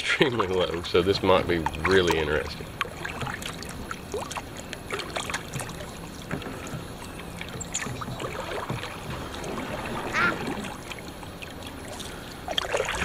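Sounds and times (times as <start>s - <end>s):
kayak paddle dipping into water: 0.0s - 13.0s
water splashes and drips: 0.0s - 13.0s.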